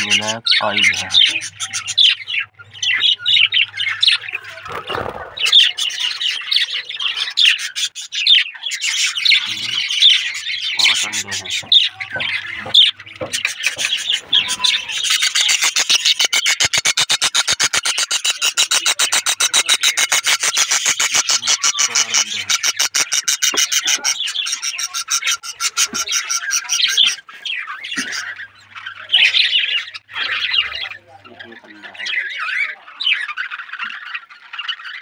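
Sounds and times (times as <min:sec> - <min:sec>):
budgerigars chattering and squawking: 0:00.0 - 0:35.0
rapid repeated bird calls: 0:00.0 - 0:35.0.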